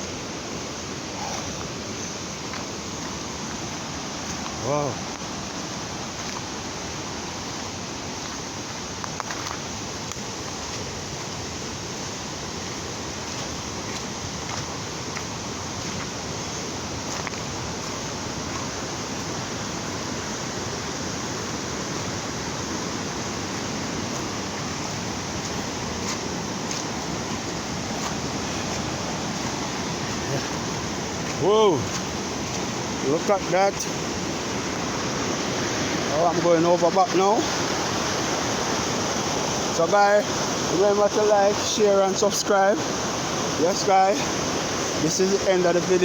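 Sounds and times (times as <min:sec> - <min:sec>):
fast-flowing river water rushing: 0:00.0 - 0:46.0.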